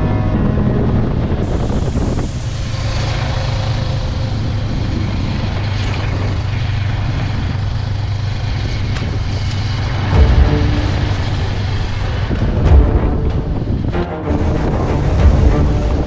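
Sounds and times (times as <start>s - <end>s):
motorcycle engine running: 1.2s - 16.0s.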